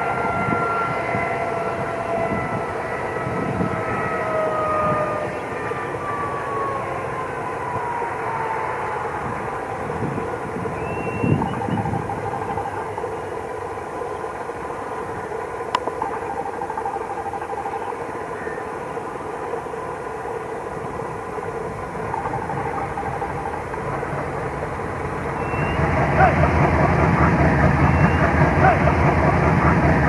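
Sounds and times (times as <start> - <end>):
diesel locomotive running: 0.0 - 30.0.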